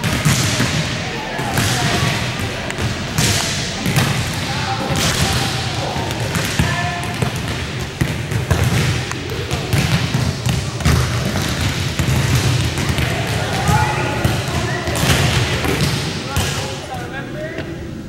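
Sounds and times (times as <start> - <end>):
volleyballs thumping on wooden floor: 0.0 - 16.7
players' voices: 0.0 - 18.0.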